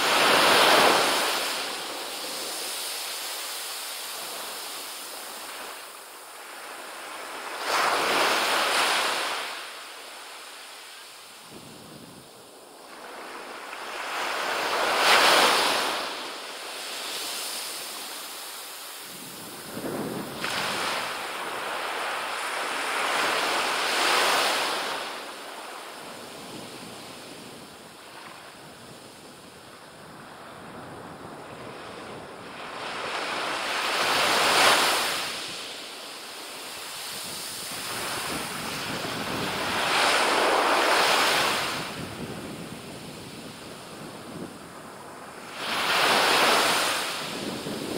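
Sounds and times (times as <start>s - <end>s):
waves washing up beach: 0.0s - 47.9s.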